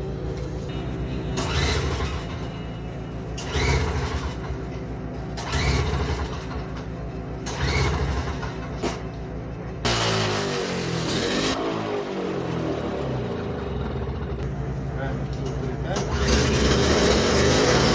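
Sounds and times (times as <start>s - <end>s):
snowblower engine running: 0.0s - 17.9s.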